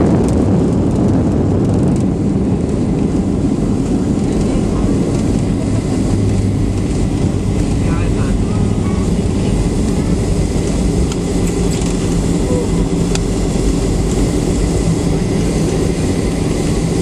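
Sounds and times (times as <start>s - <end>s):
jet engine noise and rumble: 0.0s - 17.0s.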